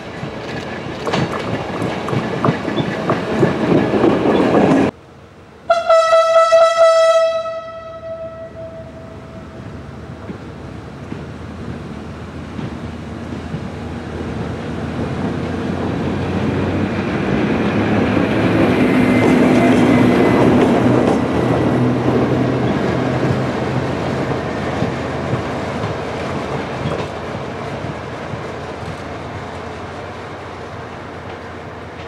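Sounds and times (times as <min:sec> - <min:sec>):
diesel locomotive passing: 0:00.0 - 0:32.0.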